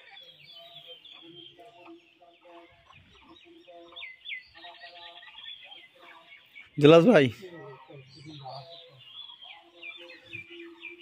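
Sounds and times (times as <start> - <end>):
chickens clucking: 0.0 - 11.0
small birds chirping: 0.0 - 11.0.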